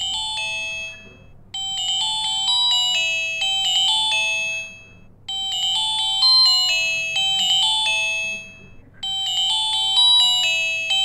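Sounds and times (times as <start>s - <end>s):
phone ringtone chime melody: 0.0s - 11.0s.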